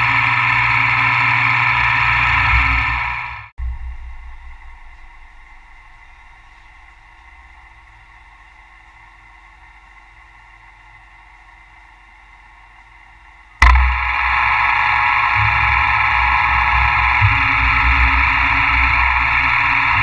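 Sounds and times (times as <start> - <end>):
milling machine humming: 0.0 - 20.0.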